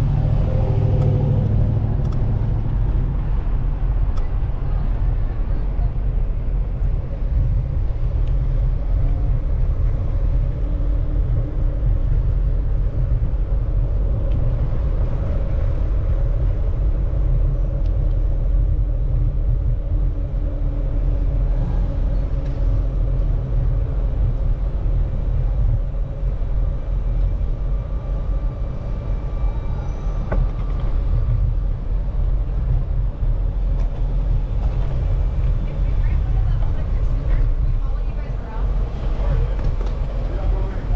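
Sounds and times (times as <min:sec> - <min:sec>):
faint street traffic: 0:00.0 - 0:40.9
wind buffeting microphone: 0:00.0 - 0:40.9.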